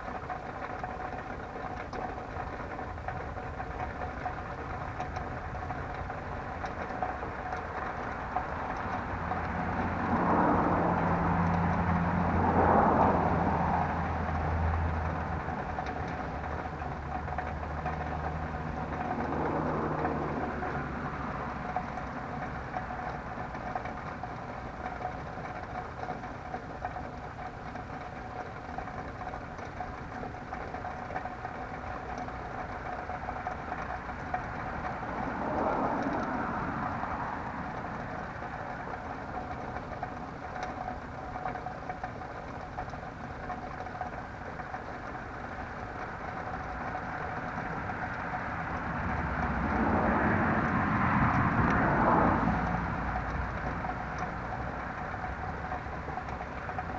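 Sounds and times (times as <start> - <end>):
motor vehicles passing: 0.2 - 26.8, 31.0 - 56.9.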